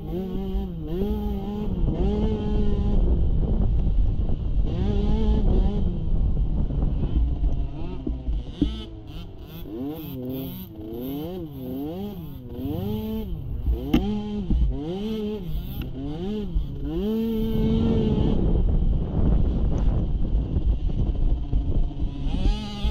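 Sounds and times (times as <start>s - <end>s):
atv engine revving: 0.0s - 22.9s
wind noise: 0.0s - 22.9s.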